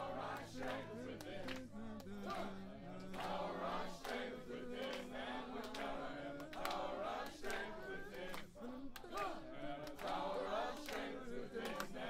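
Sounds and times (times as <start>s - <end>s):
crowd chanting in unison: 0.0s - 12.0s
sharp handclaps: 0.2s - 12.0s.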